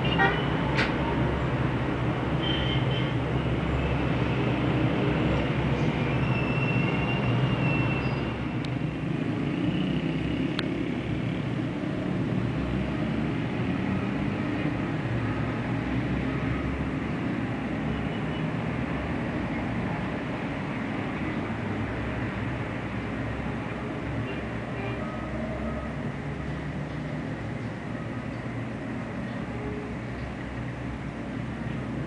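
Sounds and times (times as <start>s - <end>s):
city road traffic: 0.0s - 32.0s.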